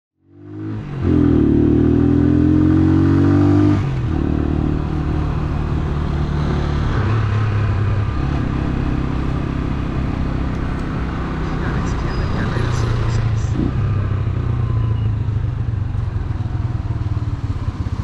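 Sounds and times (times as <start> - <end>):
motorcycle engine accelerating: 0.2 - 18.0.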